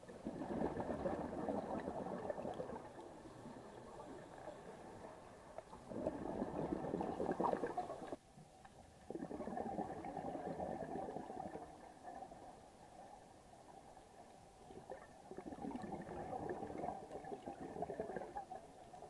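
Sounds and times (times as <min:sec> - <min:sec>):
underwater exhaled bubbles: 0:00.0 - 0:08.2, 0:08.8 - 0:13.2, 0:13.8 - 0:19.0
low steady hiss: 0:00.0 - 0:19.0.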